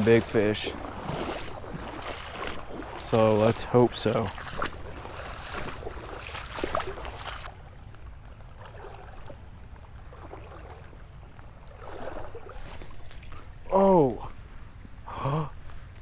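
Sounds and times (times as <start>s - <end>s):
water sloshing and splashing: 0.0s - 14.4s
wash of moving water: 0.0s - 15.2s.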